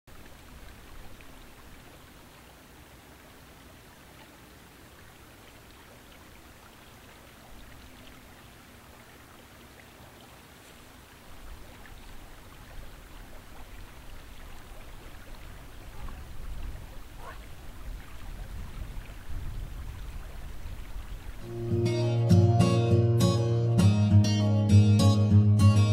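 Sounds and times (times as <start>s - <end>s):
creek water flowing: 0.1s - 22.3s.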